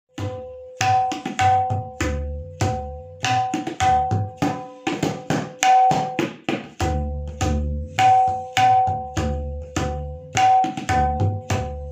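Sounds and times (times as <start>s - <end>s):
tabla bass drum strokes: 0.1s - 11.9s
tabla treble drum strokes: 0.1s - 11.9s.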